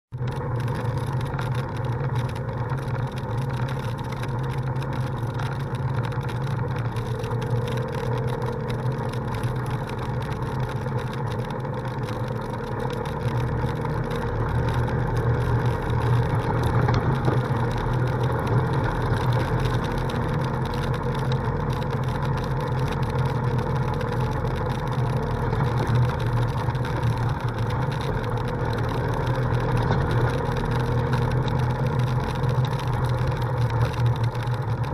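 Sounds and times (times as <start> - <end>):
vehicle engine droning: 0.1 - 34.9.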